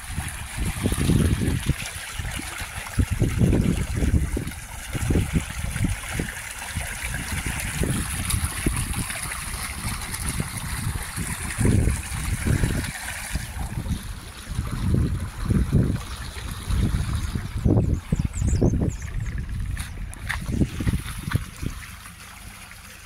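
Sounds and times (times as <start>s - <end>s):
wind rumbling on microphone: 0.0s - 22.2s
stream splashing over rocks: 0.0s - 23.0s.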